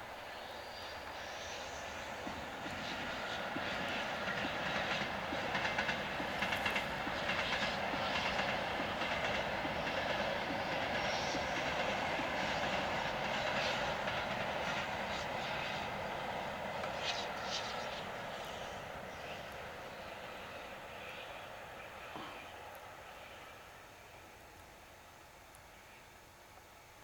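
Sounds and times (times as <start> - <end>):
train running past: 0.0 - 27.0
train wheels clicking on rail joints: 1.1 - 23.7.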